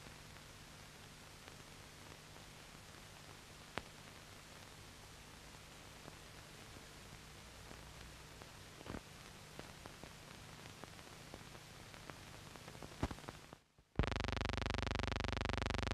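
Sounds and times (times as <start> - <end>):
microphone hiss and hum: 0.0 - 15.9.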